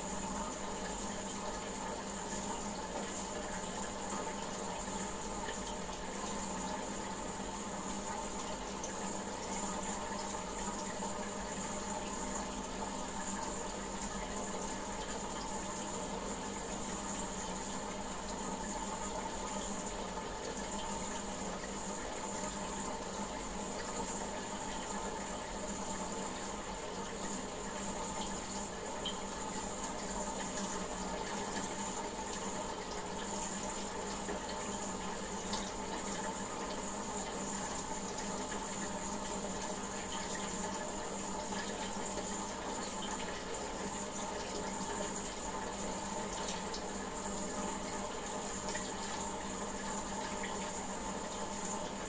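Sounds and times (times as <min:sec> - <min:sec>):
aquarium water splashing: 0:00.0 - 0:52.0.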